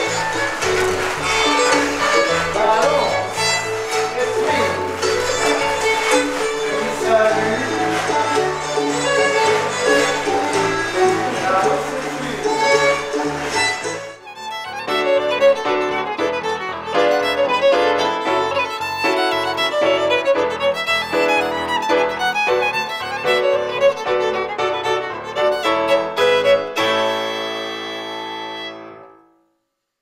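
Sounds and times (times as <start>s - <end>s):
rhythmic accompaniment: 0.0s - 24.0s
fiddle playing dance tune: 0.0s - 29.0s.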